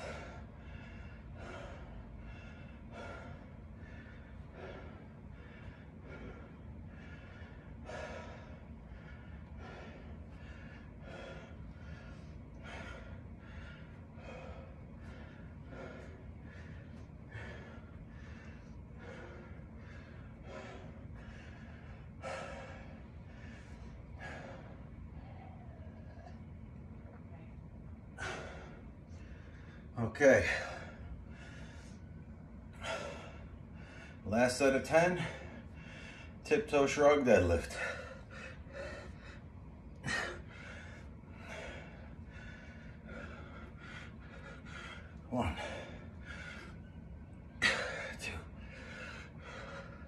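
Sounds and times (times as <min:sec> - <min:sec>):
man breathing hard: 0:00.0 - 0:50.0.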